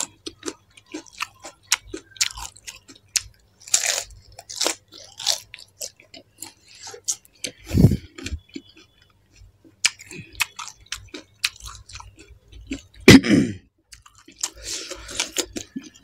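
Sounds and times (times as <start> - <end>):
wet chewing: 0.0 - 13.1, 13.9 - 16.0.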